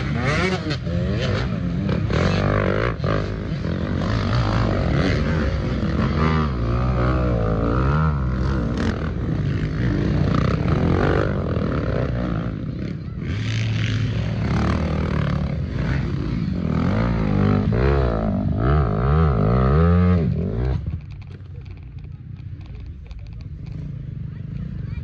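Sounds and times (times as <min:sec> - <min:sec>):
motorbike engines revving: 0:00.0 - 0:25.0.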